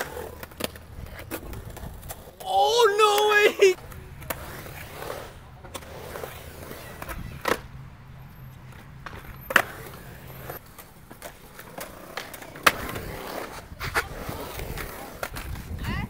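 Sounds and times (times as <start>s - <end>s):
skateboard wheels rolling: 0.0s - 16.0s
skateboards clacking on concrete: 0.0s - 16.0s.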